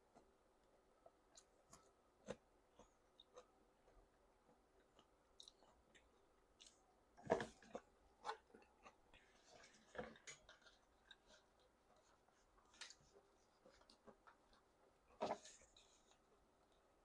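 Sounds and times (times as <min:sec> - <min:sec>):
person chewing noodles: 0:00.9 - 0:16.8.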